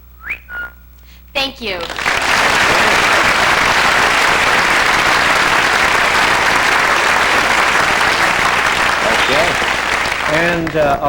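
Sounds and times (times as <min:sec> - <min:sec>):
audience applauding: 0:01.8 - 0:11.0.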